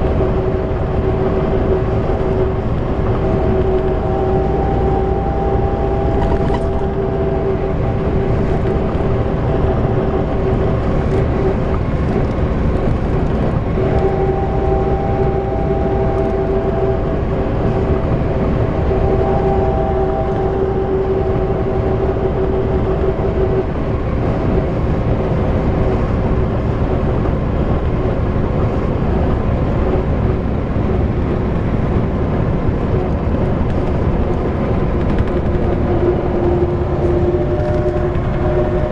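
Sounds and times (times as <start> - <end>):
bus diesel engine rumbling: 0.0 - 38.9
steady engine whine: 0.0 - 38.9.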